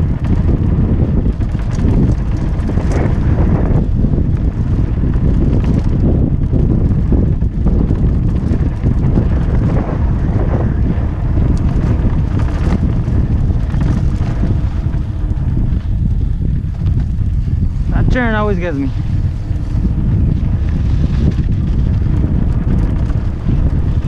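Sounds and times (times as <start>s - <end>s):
bike knocks and rattles: 0.0s - 24.0s
bike tyres rumbling: 0.0s - 24.0s
wind buffeting microphone: 0.0s - 24.0s.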